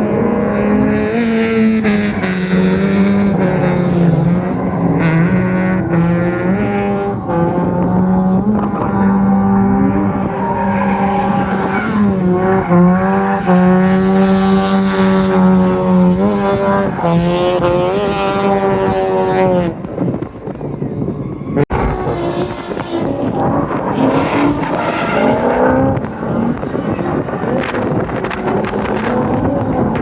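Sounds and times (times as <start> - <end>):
car engine at high revs: 0.0 - 30.0.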